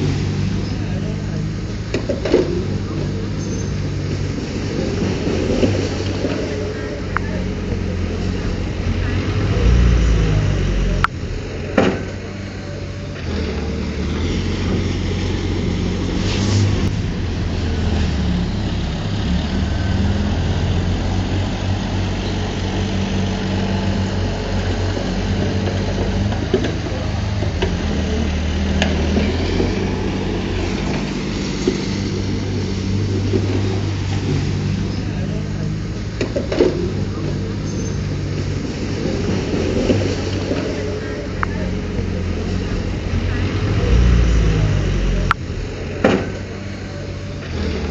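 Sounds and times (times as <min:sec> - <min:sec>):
diesel engine of earthmoving machine: 0:00.0 - 0:47.9.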